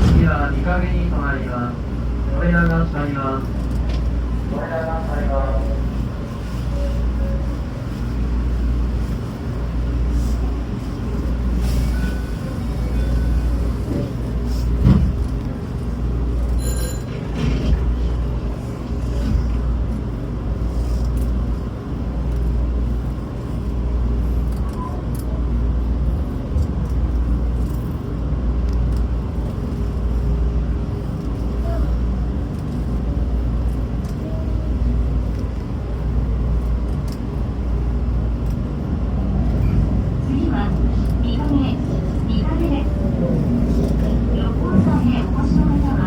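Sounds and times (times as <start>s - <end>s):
electric train rumbling: 0.0s - 46.0s.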